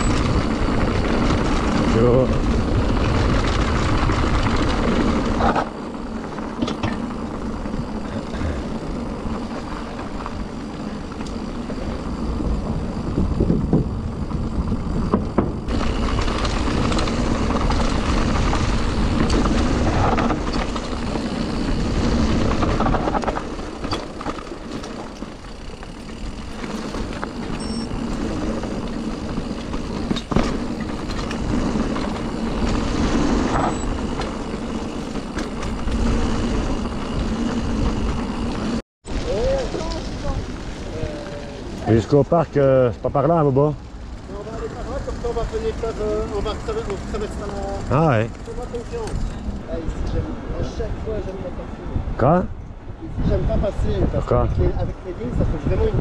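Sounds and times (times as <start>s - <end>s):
bike tyres rolling: 0.0s - 56.0s
wind rushing over microphone: 0.0s - 56.0s.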